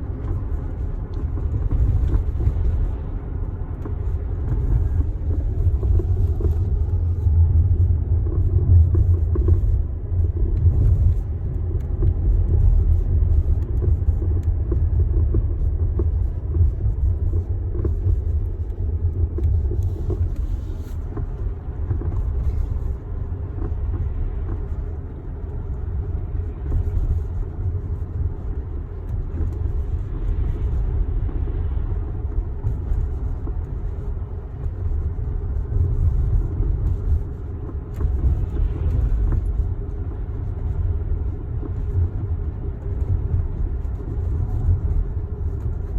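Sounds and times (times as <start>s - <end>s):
car low rumble: 0.0s - 45.9s.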